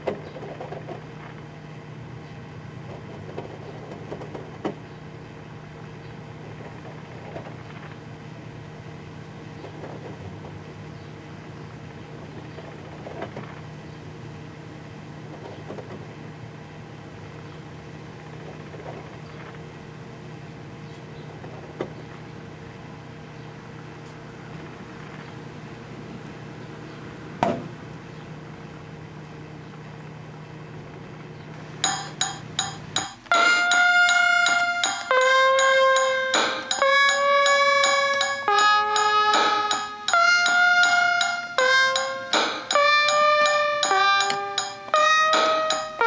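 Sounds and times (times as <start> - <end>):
microwave oven humming: 0.0 - 46.0.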